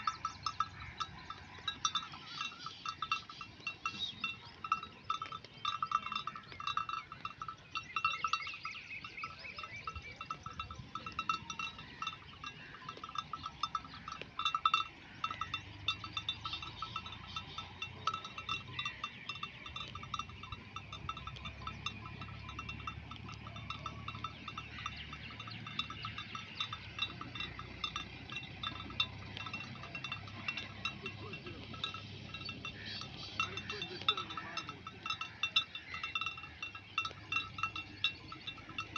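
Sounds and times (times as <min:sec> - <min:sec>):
sheep bells clinking: 0:00.0 - 0:38.9.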